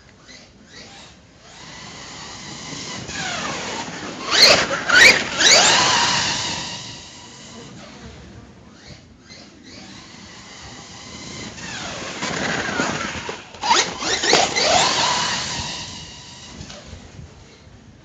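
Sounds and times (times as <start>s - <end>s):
electric motor whining: 0.4s - 17.6s.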